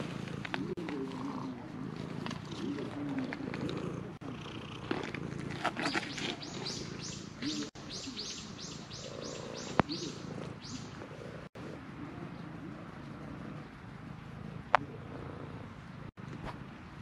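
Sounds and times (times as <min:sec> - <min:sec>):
cat purring: 0:00.0 - 0:07.8, 0:09.0 - 0:17.0.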